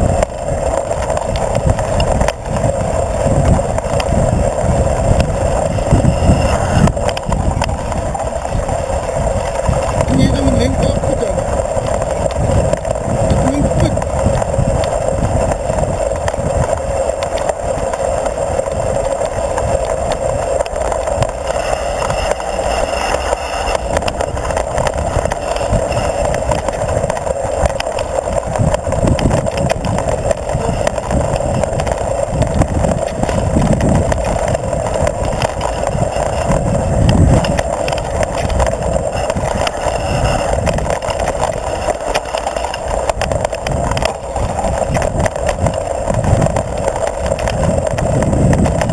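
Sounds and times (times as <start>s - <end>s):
bike thumping and rattling: 0.0s - 48.9s
tyre and wind noise: 0.0s - 48.9s.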